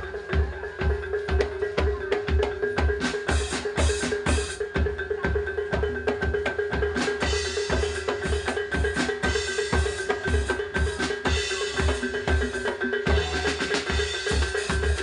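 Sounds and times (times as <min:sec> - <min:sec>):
busy drum strokes: 0:00.0 - 0:15.0.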